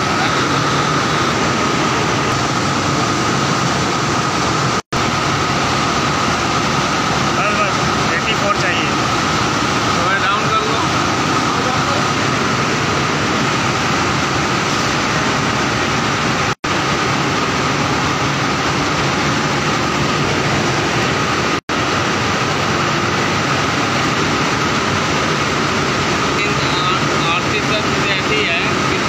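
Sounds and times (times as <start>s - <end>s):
high machine hum: 0.0s - 29.0s
textile machine running: 0.0s - 29.0s.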